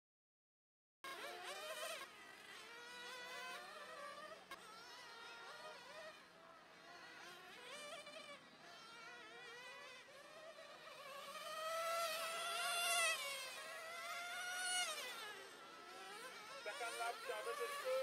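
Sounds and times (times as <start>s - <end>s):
rc car motors whining: 1.0s - 18.0s.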